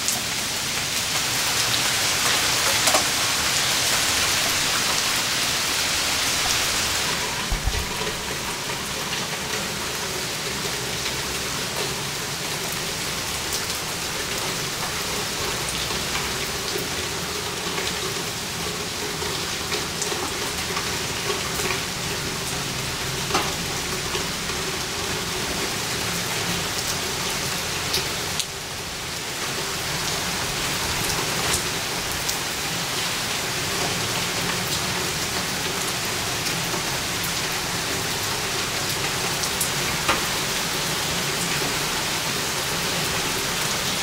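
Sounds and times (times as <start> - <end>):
rain on pavement and grass: 0.0 - 44.0.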